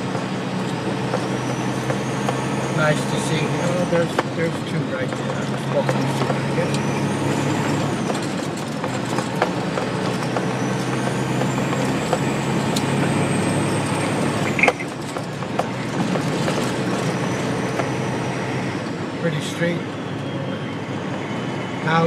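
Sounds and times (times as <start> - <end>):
truck engine drone in cab: 0.0 - 22.0.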